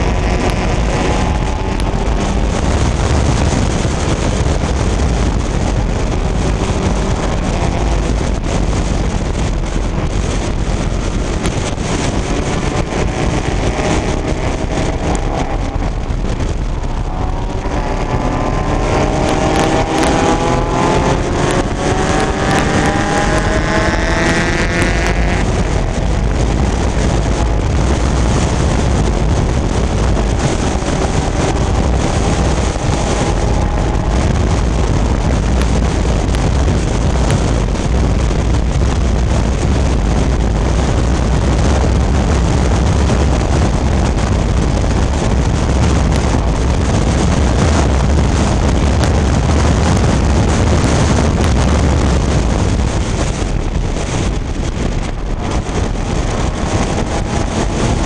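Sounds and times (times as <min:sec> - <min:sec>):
race car engine: 0:00.0 - 0:58.0
wind buffeting microphone: 0:00.0 - 0:58.0.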